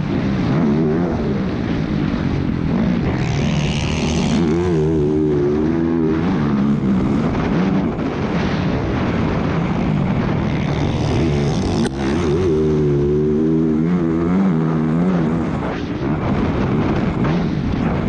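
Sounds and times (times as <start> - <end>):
motocross bike engine: 0.0 - 18.0
wind rush: 0.0 - 18.0.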